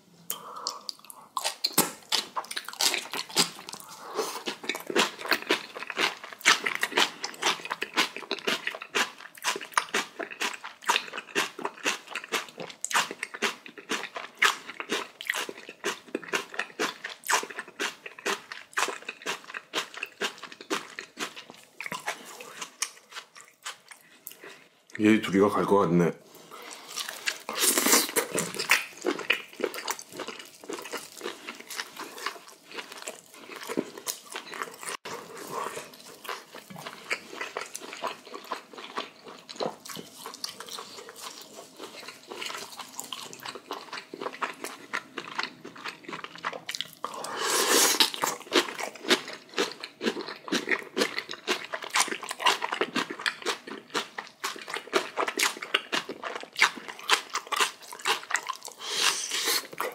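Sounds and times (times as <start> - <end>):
close chewing and crunching: 0.3 - 25.6, 26.3 - 59.9.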